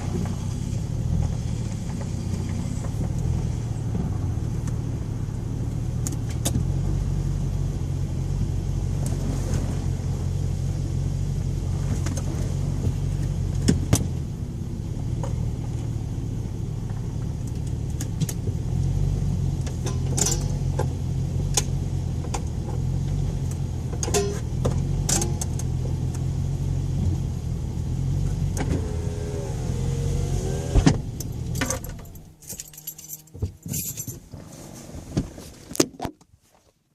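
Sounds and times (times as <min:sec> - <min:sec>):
car engine drone: 0:00.0 - 0:35.1.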